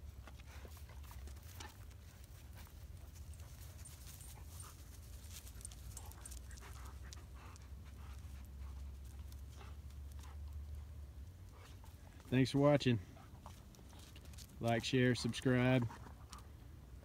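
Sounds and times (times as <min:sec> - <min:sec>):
dogs panting: 0:00.0 - 0:14.5.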